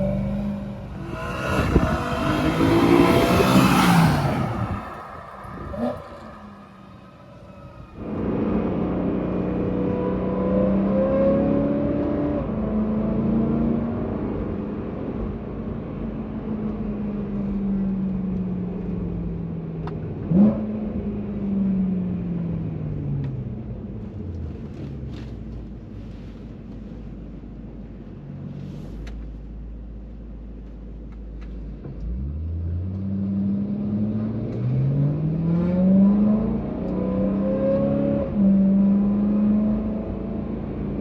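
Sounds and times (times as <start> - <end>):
car engine accelerating: 0.0 - 41.0.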